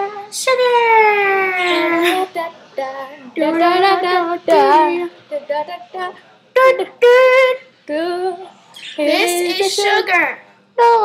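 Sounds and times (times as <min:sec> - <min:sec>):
girl singing: 0:00.0 - 0:11.0.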